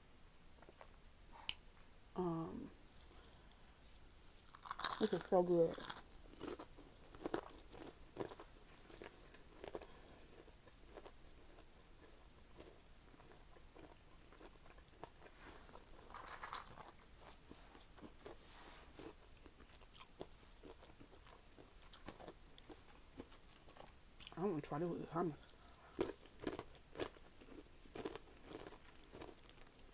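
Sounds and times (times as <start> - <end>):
person chewing crunchy food: 4.3 - 24.4, 25.4 - 29.9.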